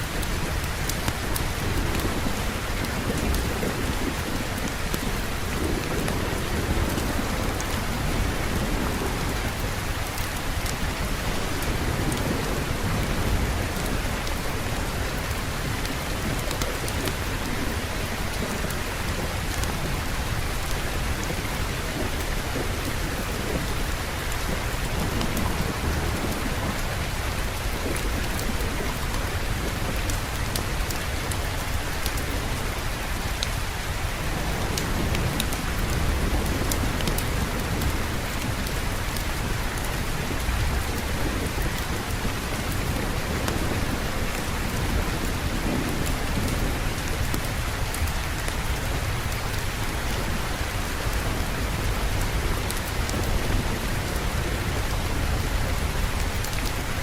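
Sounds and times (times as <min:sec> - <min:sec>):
heavy rain: 0:00.0 - 0:57.0
low thunder rumbling: 0:00.1 - 0:57.0.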